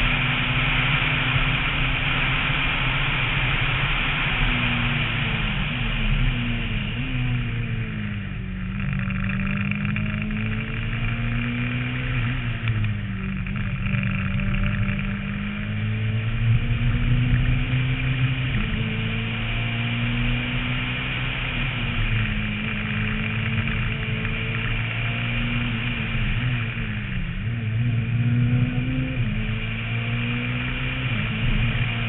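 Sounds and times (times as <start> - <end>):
steady rushing noise: 0.0 - 28.0
rally car engine revving: 0.0 - 32.0.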